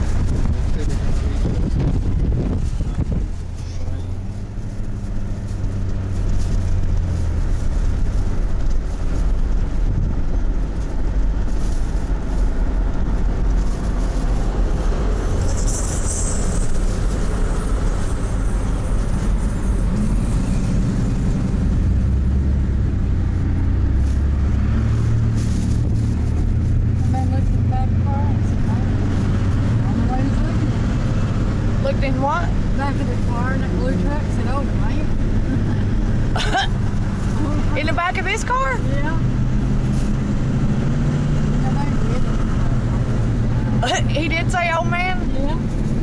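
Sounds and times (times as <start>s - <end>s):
car driving on freeway: 0.0s - 46.0s.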